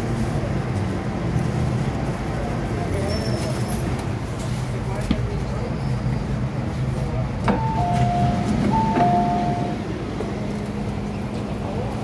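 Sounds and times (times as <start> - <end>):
train running with steady hum: 0.0 - 12.0.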